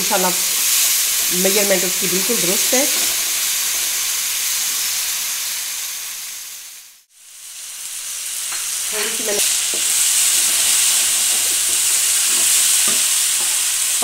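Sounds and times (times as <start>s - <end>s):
lentils sizzling in a pan: 0.0s - 14.0s.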